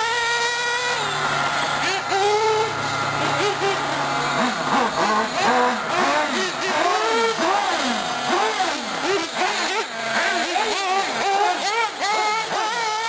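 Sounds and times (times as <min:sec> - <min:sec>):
model buggy engines revving: 0:00.0 - 0:13.0.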